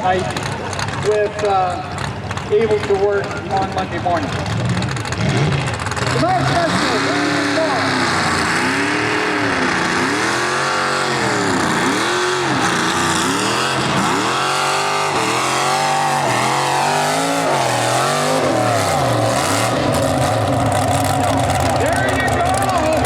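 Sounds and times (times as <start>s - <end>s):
tractor engine revving under load: 0.0s - 23.0s.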